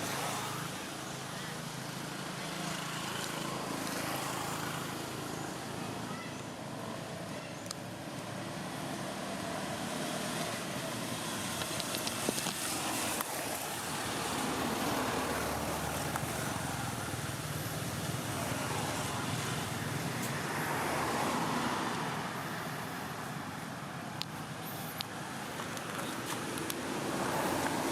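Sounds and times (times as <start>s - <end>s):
road traffic rushing: 0.0s - 27.9s.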